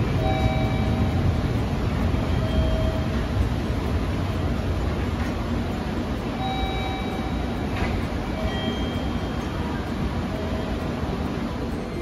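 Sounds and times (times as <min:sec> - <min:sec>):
faint train squeals: 0:00.0 - 0:12.0
train rumbling: 0:00.0 - 0:12.0.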